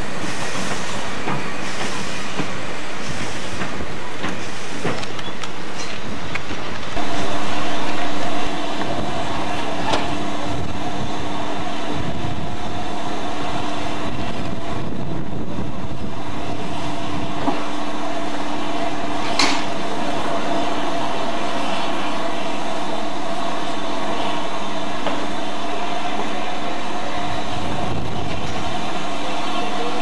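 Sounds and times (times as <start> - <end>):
steam locomotives rumbling: 0.0 - 30.0.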